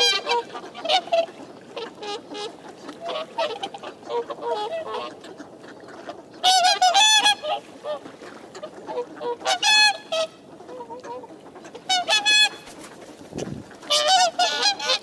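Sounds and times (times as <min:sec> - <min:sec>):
swans calling: 0:00.0 - 0:15.0.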